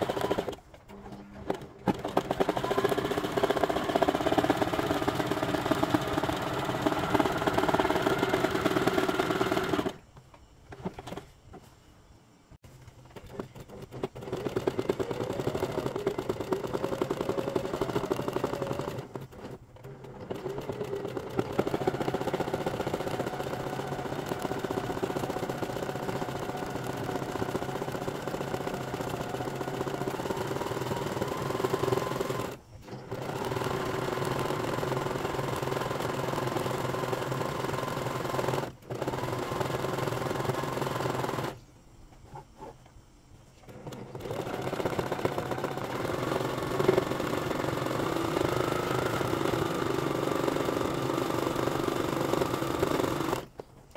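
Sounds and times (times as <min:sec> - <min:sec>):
sewing machine stitching: 0:00.0 - 0:10.0, 0:13.1 - 0:41.6, 0:43.6 - 0:53.5.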